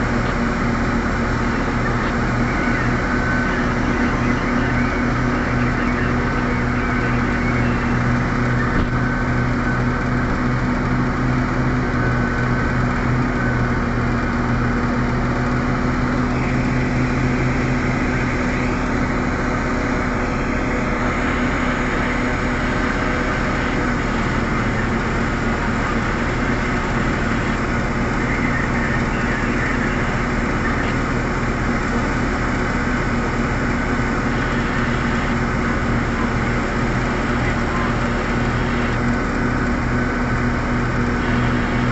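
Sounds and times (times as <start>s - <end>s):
excavator digging and loading: 0.0s - 41.9s
heavy diesel engines running: 0.0s - 41.9s.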